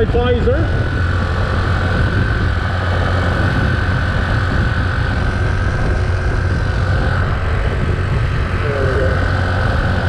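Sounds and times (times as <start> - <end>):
moped engine running: 0.0 - 10.0
wind and road noise: 0.0 - 10.0.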